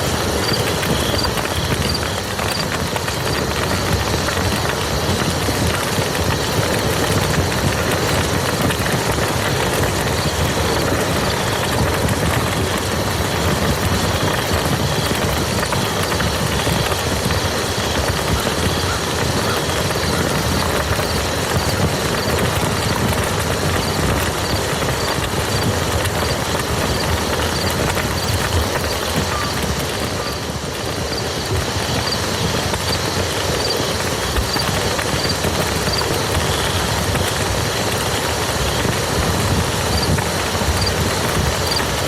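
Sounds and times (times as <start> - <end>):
rain falling on a field: 0.0 - 42.0.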